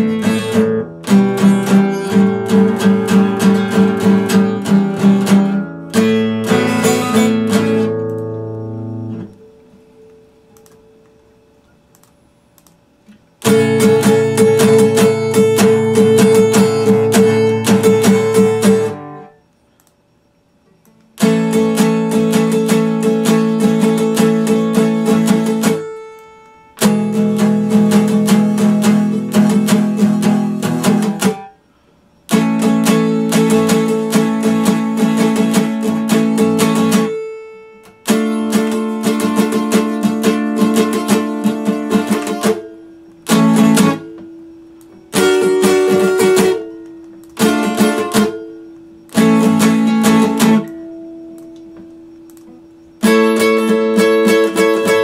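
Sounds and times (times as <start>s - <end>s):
acoustic guitar strumming chords: 0.0s - 19.6s, 20.7s - 55.0s.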